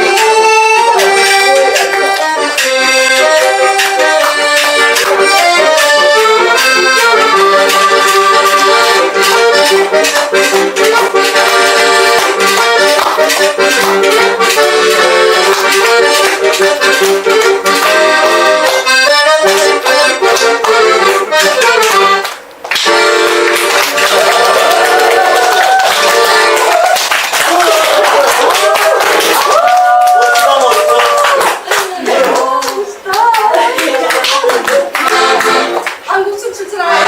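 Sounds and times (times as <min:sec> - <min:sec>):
accordion playing lively tune: 0:00.0 - 0:29.5, 0:30.5 - 0:37.0.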